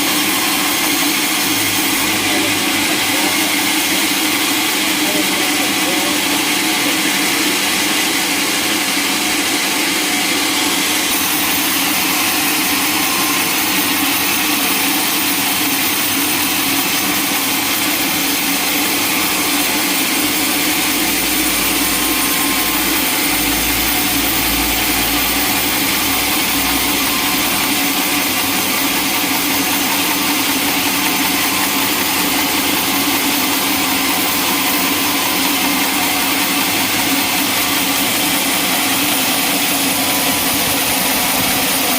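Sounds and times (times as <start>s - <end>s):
sawmill machinery drone: 0.0s - 41.9s.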